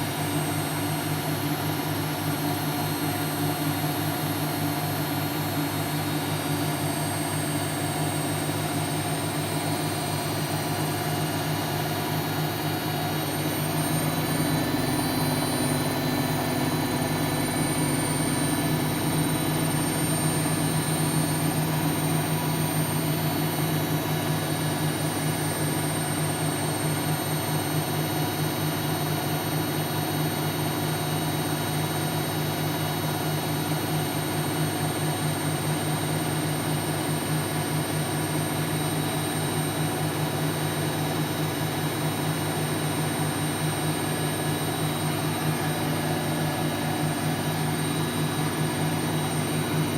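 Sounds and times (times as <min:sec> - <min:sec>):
washing machine motor whine: 0:00.0 - 0:49.9.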